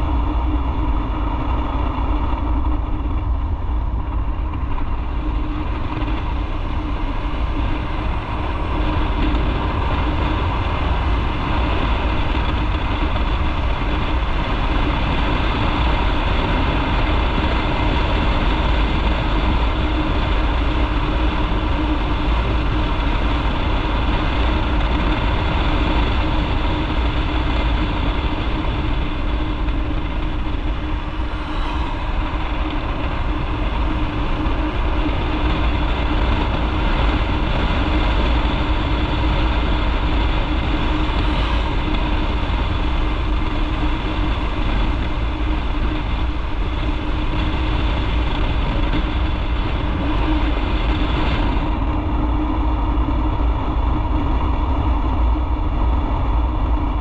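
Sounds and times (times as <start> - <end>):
motorcycle engine running: 0.0 - 54.5.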